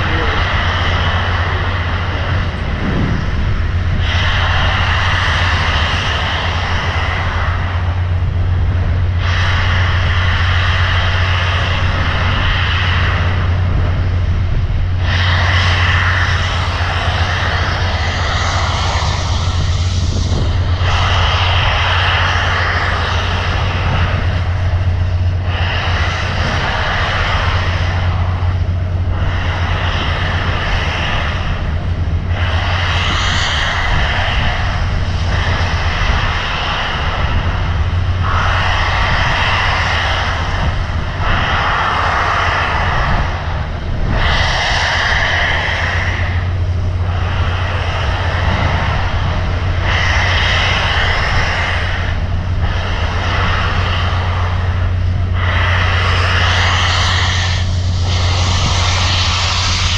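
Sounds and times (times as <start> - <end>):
constant low hum: 0.0 - 59.9
train roaring in motion: 0.0 - 59.9.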